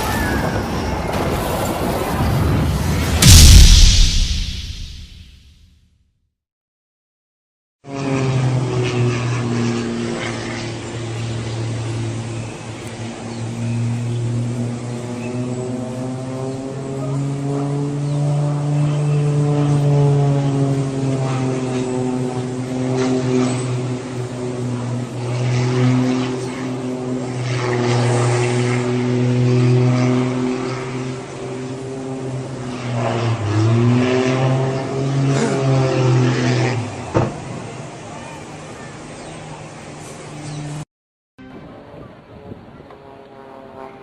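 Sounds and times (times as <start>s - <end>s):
propeller airplane engine droning: 0.0s - 3.4s, 7.8s - 40.8s, 41.4s - 44.0s.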